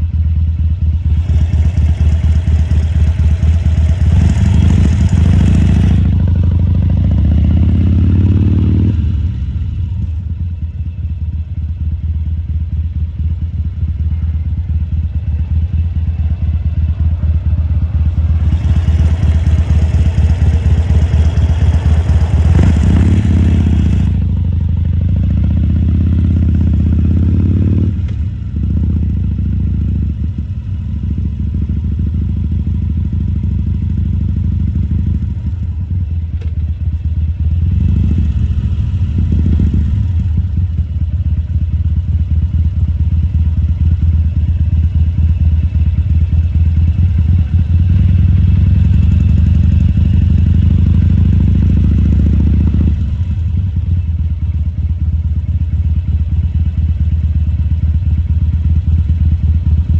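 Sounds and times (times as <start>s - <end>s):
motorcycle engine revving: 0.5s - 10.7s, 13.5s - 59.9s.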